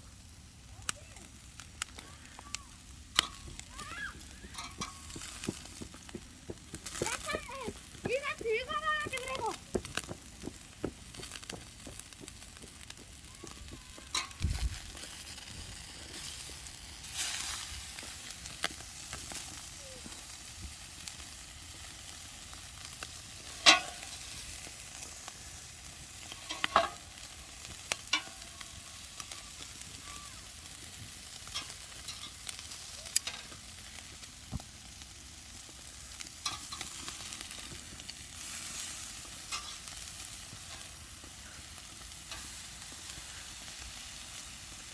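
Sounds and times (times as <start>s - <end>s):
meat sizzling over wood fire: 0.0s - 44.9s
sharp fire crackles: 0.0s - 44.9s.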